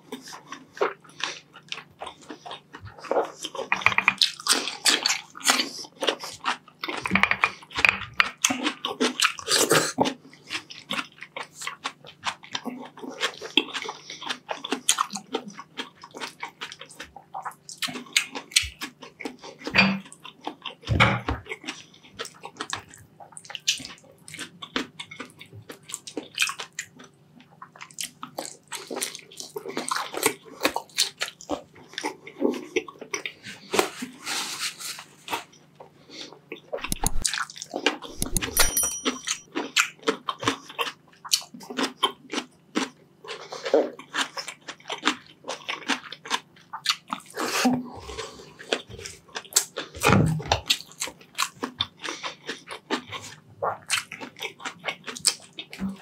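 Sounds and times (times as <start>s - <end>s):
wet chewing and lip smacking: 0.0s - 33.9s, 35.3s - 56.0s.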